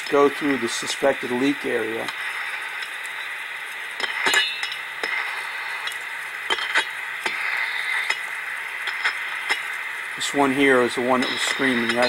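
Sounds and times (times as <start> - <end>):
ultrasonic translator hiss: 0.0 - 12.0.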